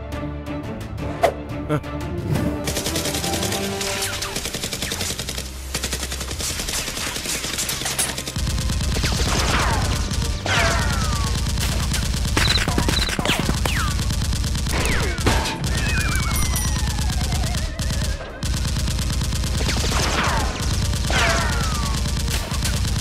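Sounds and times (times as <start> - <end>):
automatic gunfire sound effects: 2.6 - 23.0.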